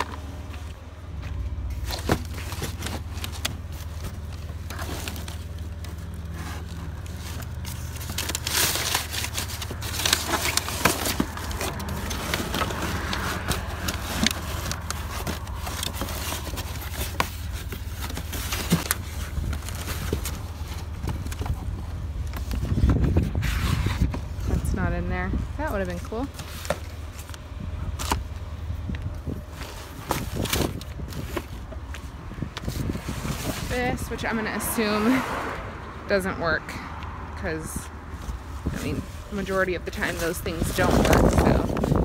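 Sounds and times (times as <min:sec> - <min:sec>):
packaging rustling and crinkling: 0:01.6 - 0:24.6, 0:25.8 - 0:33.9, 0:38.2 - 0:42.0.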